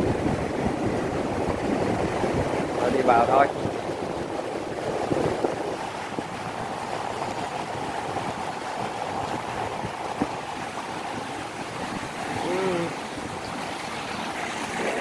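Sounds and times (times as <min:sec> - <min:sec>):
water rushing through sluice gate: 0:00.0 - 0:15.0.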